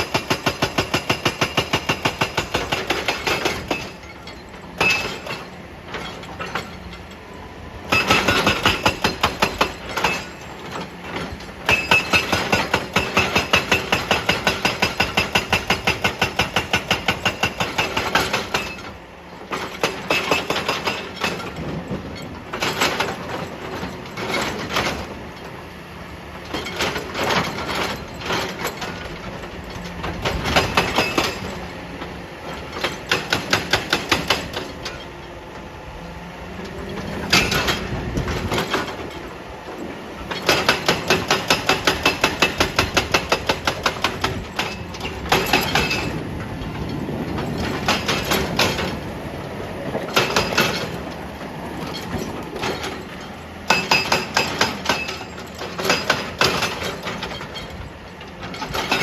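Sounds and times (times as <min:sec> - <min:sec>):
hydraulic breaker hammer pounding rock: 0:00.0 - 0:07.2, 0:07.8 - 0:25.5, 0:26.3 - 0:35.3, 0:36.6 - 0:59.0
excavator engine running: 0:00.0 - 0:59.0.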